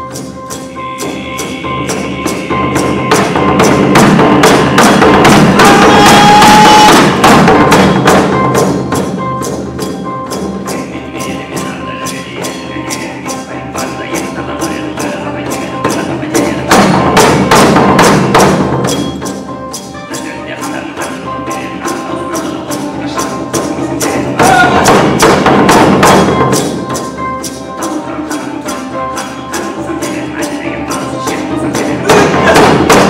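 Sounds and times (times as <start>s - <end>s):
thumps and jingles beat: 0.0s - 33.0s.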